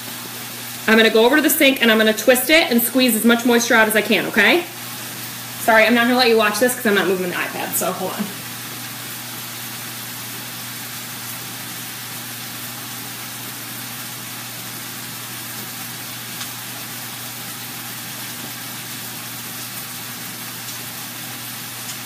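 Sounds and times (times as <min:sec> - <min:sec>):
gas burner hissing: 0:00.0 - 0:22.0.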